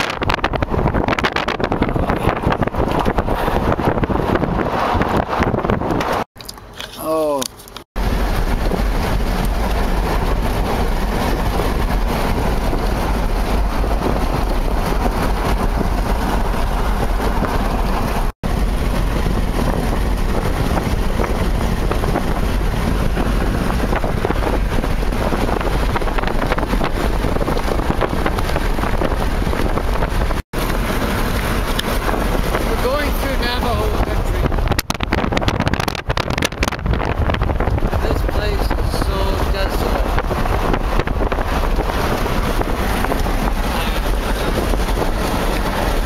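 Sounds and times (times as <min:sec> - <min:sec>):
wind buffeting microphone: 0:00.0 - 0:06.3, 0:07.8 - 0:46.0
road noise inside car: 0:00.0 - 0:46.0.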